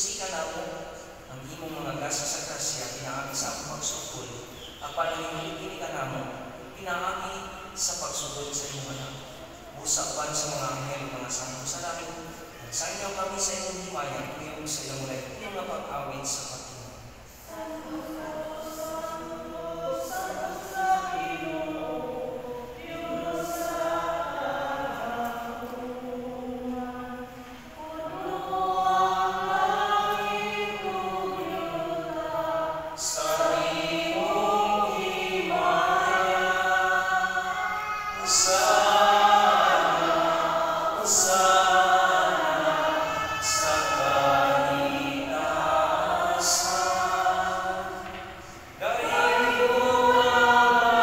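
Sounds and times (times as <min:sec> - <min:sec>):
group singing a slow hymn: 0:00.0 - 0:51.0.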